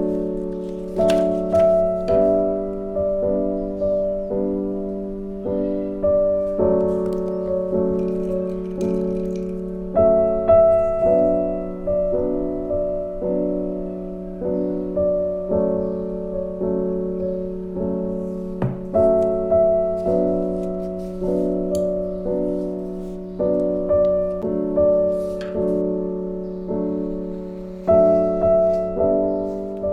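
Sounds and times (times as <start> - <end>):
slow solo piano piece: 0.0 - 29.9.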